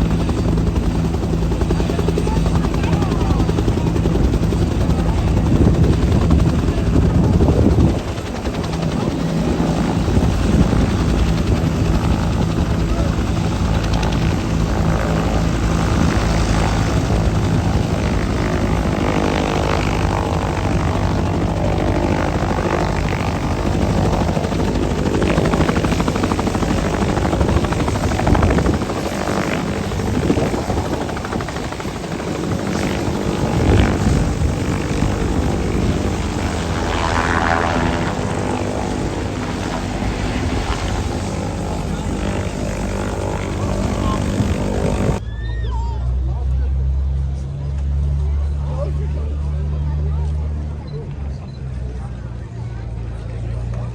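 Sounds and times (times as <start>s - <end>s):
helicopter flying: 0.0s - 53.9s.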